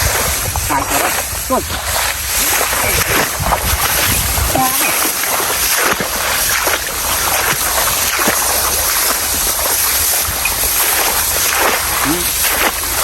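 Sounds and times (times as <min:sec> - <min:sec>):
small water splashes: 0:00.0 - 0:13.0
water rushing and sloshing: 0:00.0 - 0:13.0.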